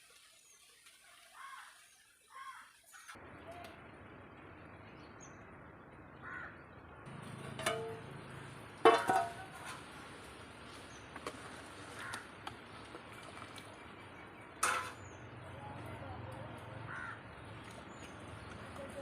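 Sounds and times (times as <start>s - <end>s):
steady low background noise: 3.2s - 18.8s.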